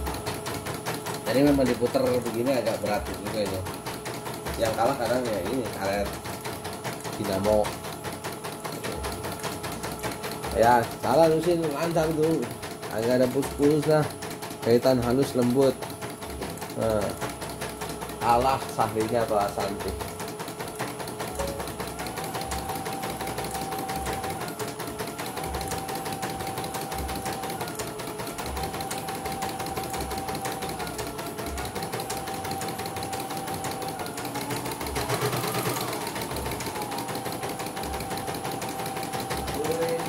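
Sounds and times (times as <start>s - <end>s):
embroidery machine needle rattle: 0.0s - 40.0s.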